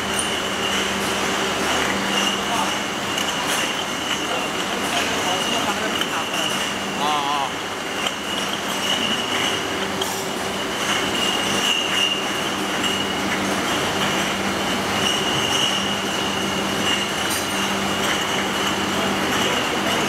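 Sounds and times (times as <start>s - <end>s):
bottle washing machine running: 0.0s - 20.0s.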